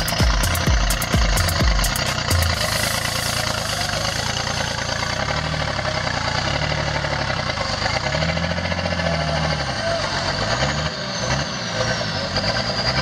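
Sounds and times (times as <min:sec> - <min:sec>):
vehicle engine under load: 0:00.0 - 0:13.0.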